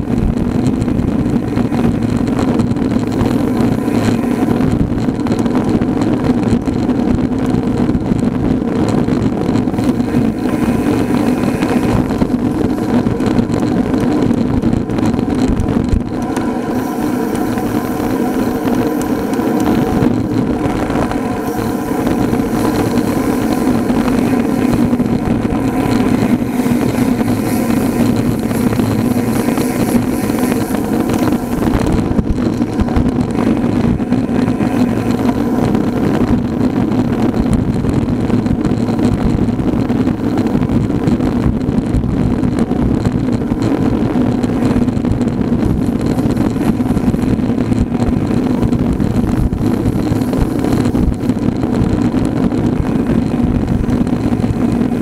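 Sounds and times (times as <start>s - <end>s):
low hum: 0.0s - 55.0s
wind and road noise: 0.0s - 55.0s.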